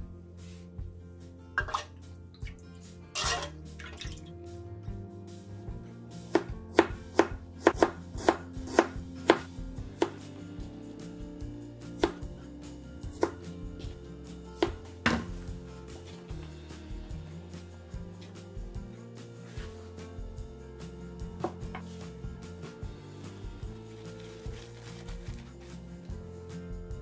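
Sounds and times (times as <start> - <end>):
quiet background music: 0.0 - 27.0.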